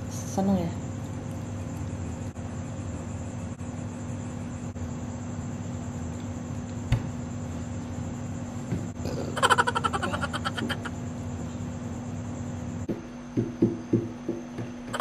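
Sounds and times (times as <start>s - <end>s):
room noise hum and hiss: 0.0s - 15.0s.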